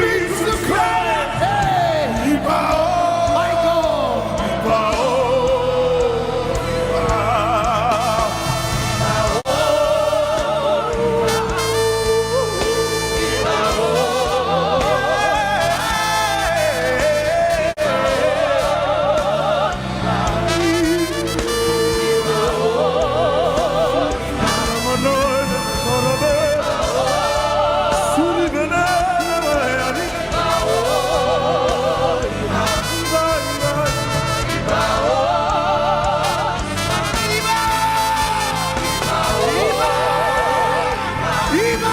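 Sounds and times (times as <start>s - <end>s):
band accompaniment: 0.0s - 41.9s
gospel worship music: 0.0s - 41.9s
person singing with vibrato: 0.0s - 41.9s.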